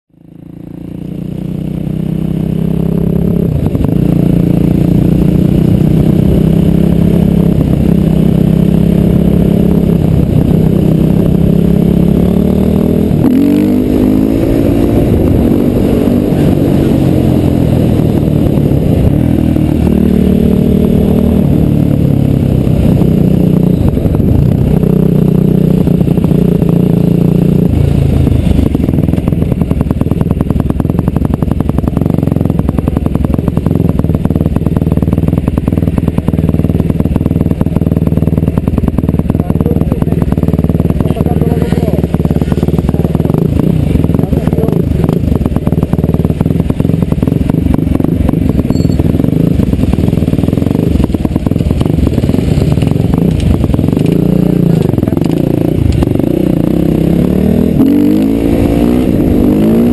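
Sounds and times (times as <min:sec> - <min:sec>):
motorcycle engine under way: 0:00.1 - 0:59.9.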